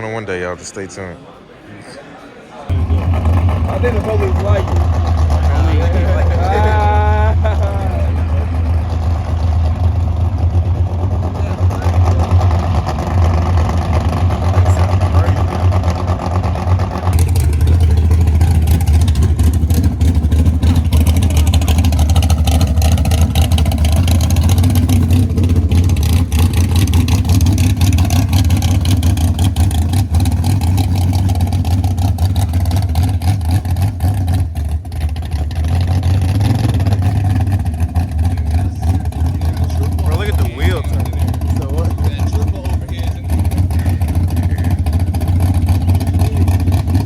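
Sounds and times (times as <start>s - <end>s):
car engines droning: 0.0s - 47.0s
crackly exhaust: 2.7s - 47.0s.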